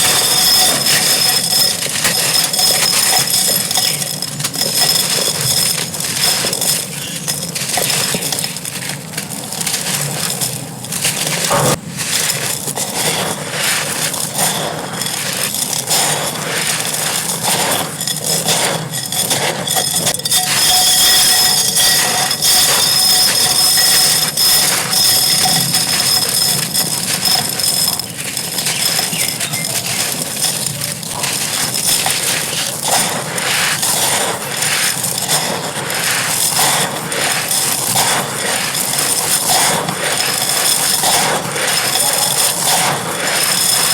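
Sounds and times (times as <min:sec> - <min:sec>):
clay pot pieces crumbling: 0:00.0 - 0:43.9.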